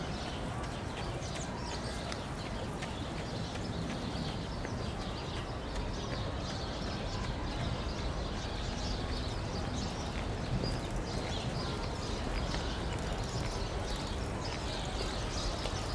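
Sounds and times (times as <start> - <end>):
city traffic rumble: 0.0 - 15.9
small birds chirping: 0.0 - 15.9.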